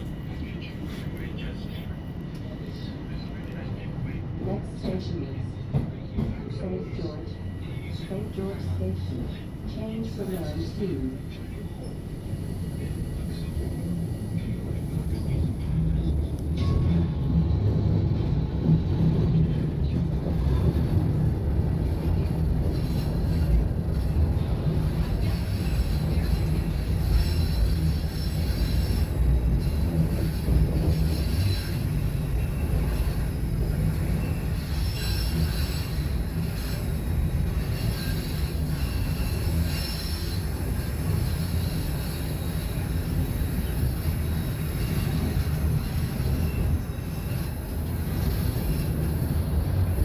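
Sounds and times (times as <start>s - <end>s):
subway train rumbling: 0.0s - 50.0s
wheels squealing on rails: 6.8s - 50.0s.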